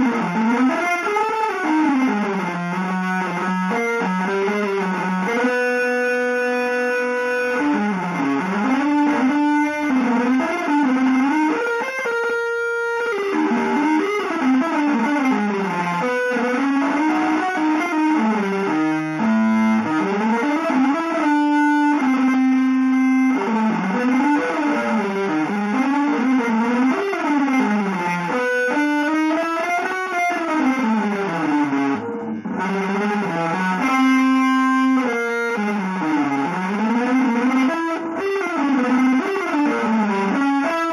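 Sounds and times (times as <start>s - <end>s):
electric guitar improvisation: 0.0s - 40.9s.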